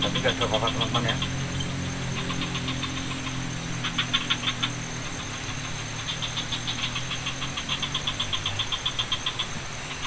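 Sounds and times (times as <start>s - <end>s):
insects pulsed chirping: 0.0s - 10.0s
low drone: 0.0s - 10.0s
steady high whine: 0.0s - 10.0s.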